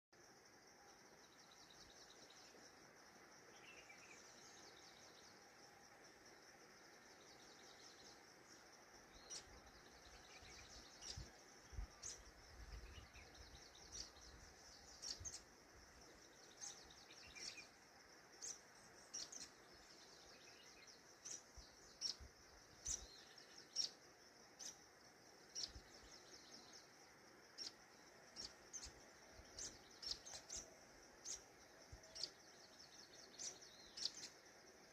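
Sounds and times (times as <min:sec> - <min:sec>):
faint bird chirps: 0:00.2 - 0:34.9.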